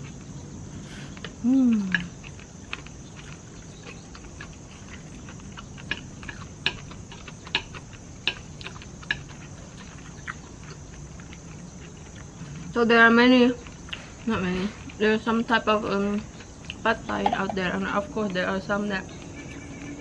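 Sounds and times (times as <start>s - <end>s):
chewing: 0.0s - 20.0s
insects droning: 0.0s - 20.0s.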